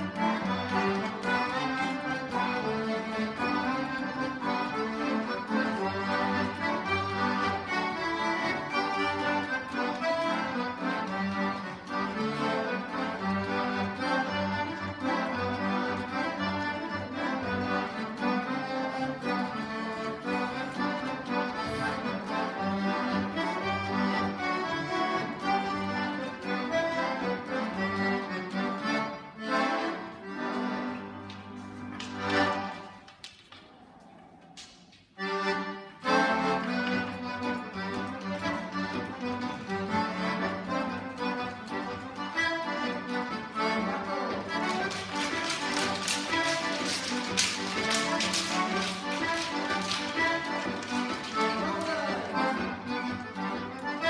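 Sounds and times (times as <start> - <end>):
accordion playing a dance tune: 0.0 - 33.2, 35.0 - 54.0.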